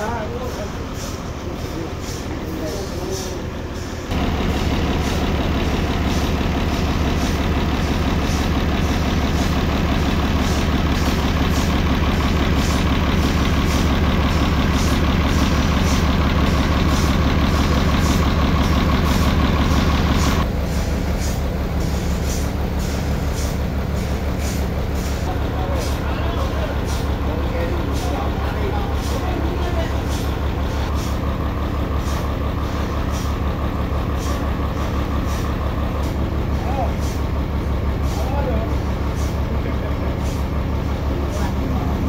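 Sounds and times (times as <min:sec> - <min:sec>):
band saw machinery running: 0:00.0 - 0:42.0
low engine drone: 0:00.0 - 0:42.0.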